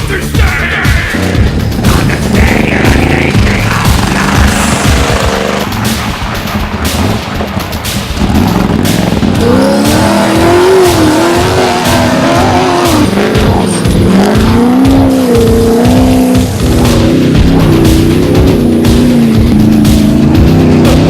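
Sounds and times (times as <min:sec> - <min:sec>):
background music: 0:00.0 - 0:21.0
vehicle engine revving: 0:00.0 - 0:21.0.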